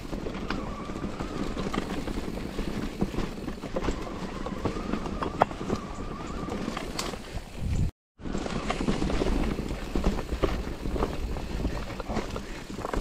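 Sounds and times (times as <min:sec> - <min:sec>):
bike knocking and rattling: 0:00.0 - 0:13.0
bike tyre rumble on rocky trail: 0:00.0 - 0:13.0.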